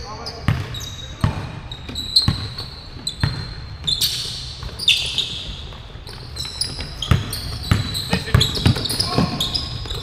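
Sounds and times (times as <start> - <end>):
sneakers squeaking on floor: 0.0 - 10.0
basketball bouncing on court: 0.4 - 10.0.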